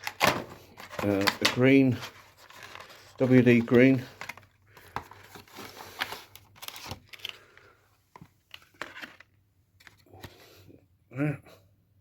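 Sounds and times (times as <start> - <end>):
packaging rustling and crinkling: 0.0 - 10.5.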